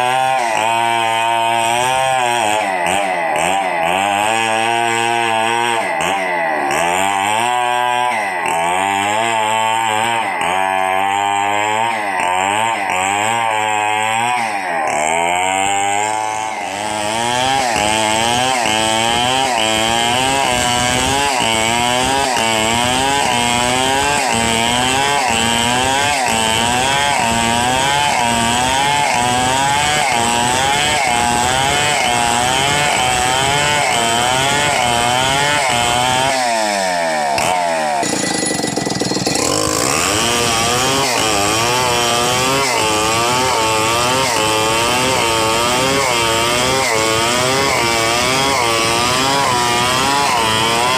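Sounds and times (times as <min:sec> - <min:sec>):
chainsaw cutting a log: 0:00.0 - 0:50.9.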